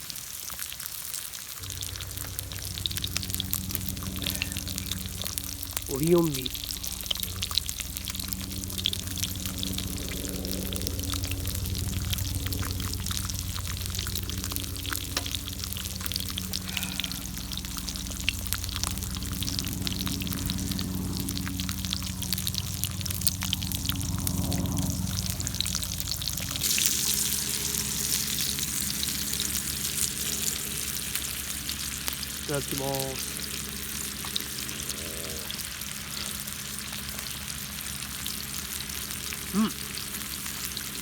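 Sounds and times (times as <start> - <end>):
food sizzling on a grill: 0.0 - 41.0
low hum: 1.5 - 41.0.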